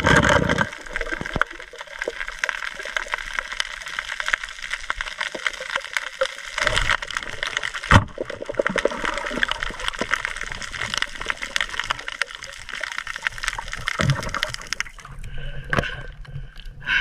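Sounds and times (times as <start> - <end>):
underwater crackle of clicks: 0.0 - 16.8.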